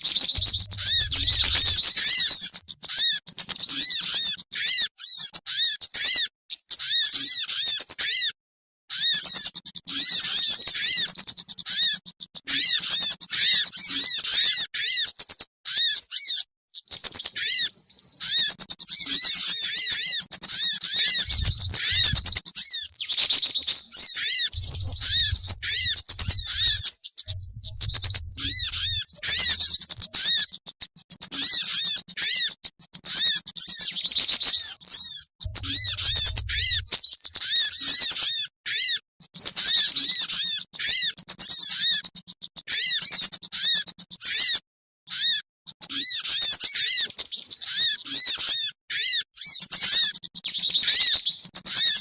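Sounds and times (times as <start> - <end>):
songbirds chirping and twittering: 0.0 - 52.0.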